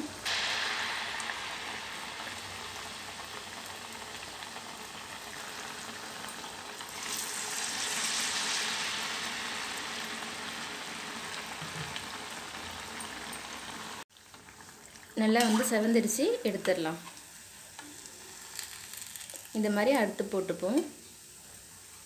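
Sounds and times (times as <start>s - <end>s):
deep-frying sizzle in oil: 0.0s - 22.0s.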